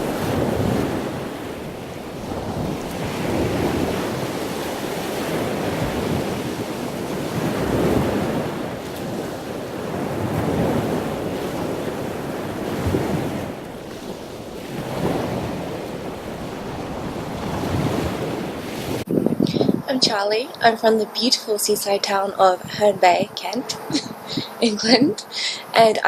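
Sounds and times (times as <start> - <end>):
waves rushing: 0.0 - 26.0
wind buffeting microphone: 0.0 - 26.0.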